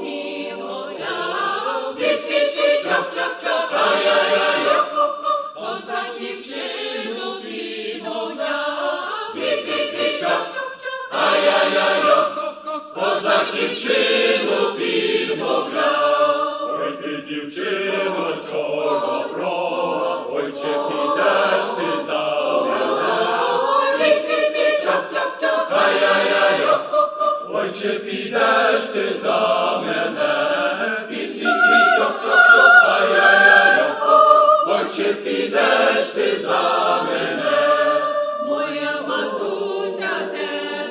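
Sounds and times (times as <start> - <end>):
mixed choir singing in harmony: 0.0 - 40.9.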